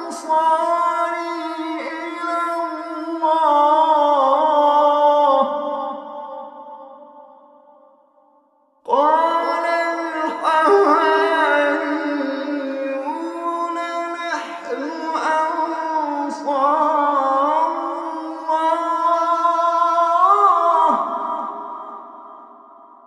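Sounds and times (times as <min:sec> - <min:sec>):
man chanting melodically: 0:00.0 - 0:06.7, 0:08.9 - 0:22.4.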